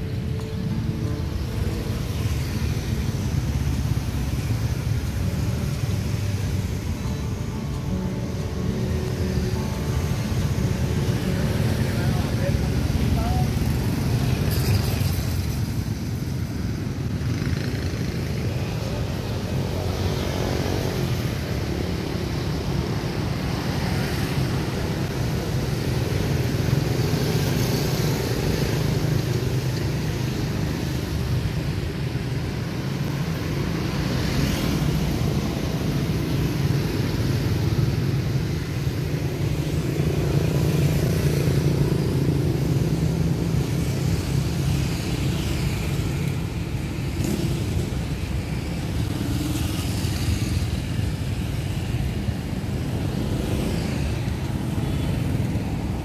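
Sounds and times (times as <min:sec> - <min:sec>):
low engine hum of traffic: 0:00.0 - 0:56.0
vehicles passing: 0:00.0 - 0:56.0.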